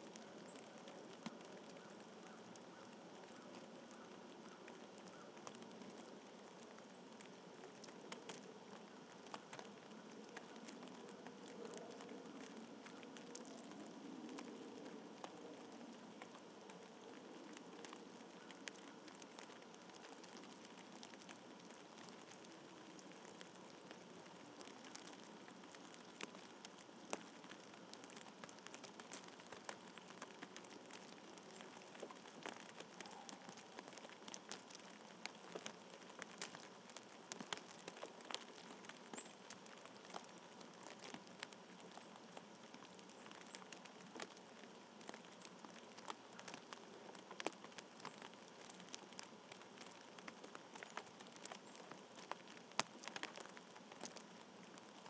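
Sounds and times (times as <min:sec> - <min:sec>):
faint outdoor hiss: 0:00.0 - 0:55.0
light patter of ticks: 0:00.0 - 0:55.0.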